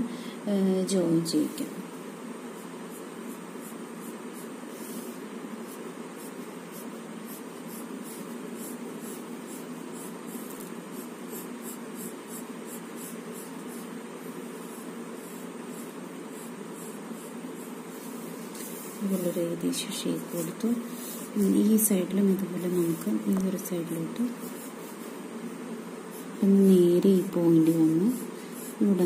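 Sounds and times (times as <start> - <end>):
low background hum: 0.0 - 29.0
pencil scratching on paper: 2.4 - 29.0.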